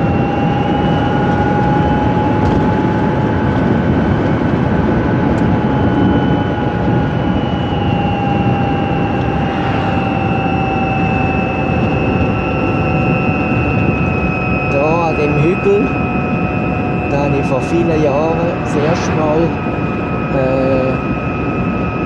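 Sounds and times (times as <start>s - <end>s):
electric drivetrain whine: 0.0s - 22.0s
road and wind noise: 0.0s - 22.0s.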